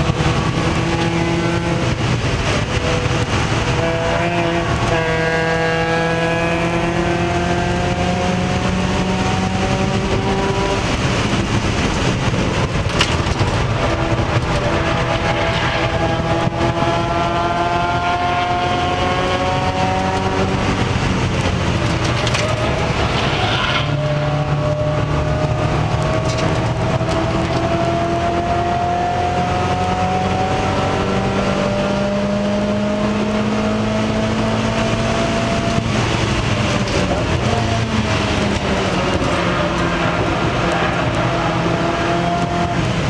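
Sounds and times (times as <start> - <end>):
race car engine at full throttle: 0.0 - 43.0
road and wind noise: 0.0 - 43.0.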